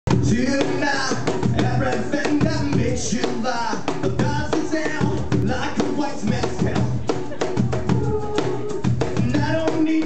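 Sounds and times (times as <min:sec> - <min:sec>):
acoustic guitars strumming: 0:00.1 - 0:10.0
cajon beat: 0:00.1 - 0:10.0
man singing: 0:00.1 - 0:10.0.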